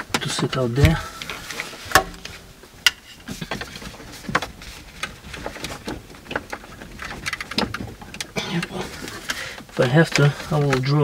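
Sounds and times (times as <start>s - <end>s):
cables rustling: 0.0s - 11.0s.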